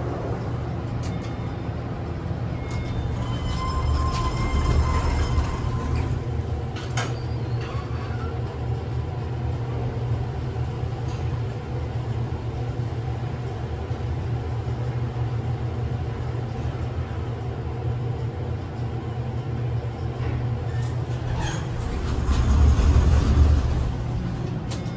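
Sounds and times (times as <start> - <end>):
elevator drive hum: 0.0 - 24.9.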